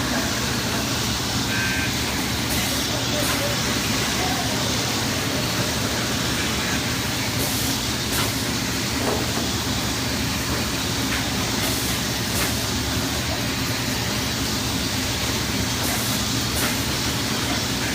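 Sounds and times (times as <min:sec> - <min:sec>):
blower hiss: 0:00.0 - 0:17.9.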